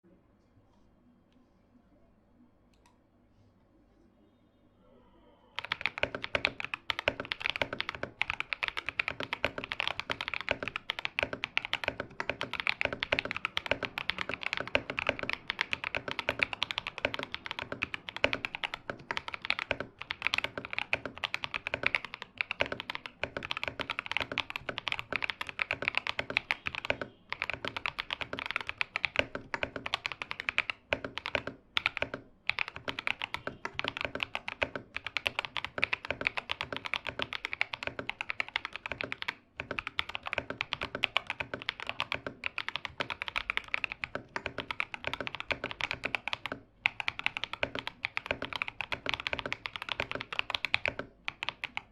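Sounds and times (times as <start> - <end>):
fast typing on mechanical keyboard: 5.6 - 51.9.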